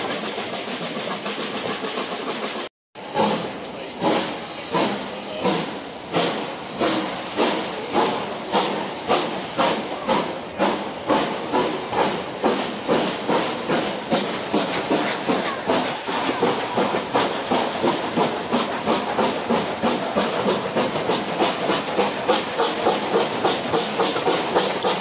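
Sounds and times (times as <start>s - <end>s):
steady hiss of steam: 0.0s - 25.0s
steam locomotive chuffing: 0.0s - 25.0s.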